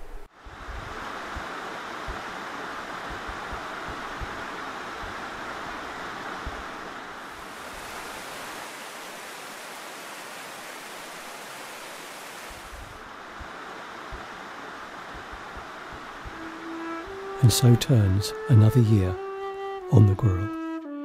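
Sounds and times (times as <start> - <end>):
river rushing over rocks: 0.4 - 17.7.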